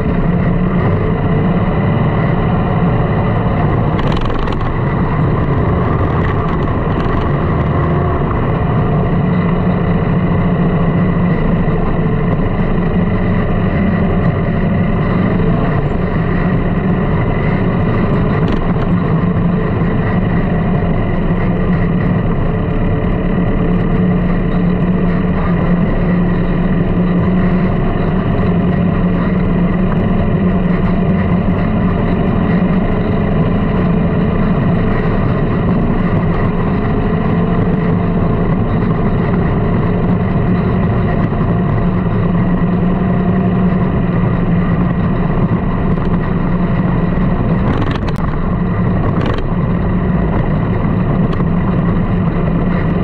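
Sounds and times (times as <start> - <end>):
sand rail engine running: 0.0 - 53.0.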